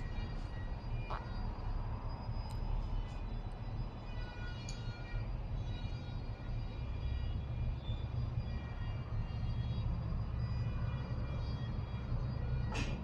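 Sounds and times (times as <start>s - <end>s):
distant jet airliner rumble: 0.0s - 13.0s.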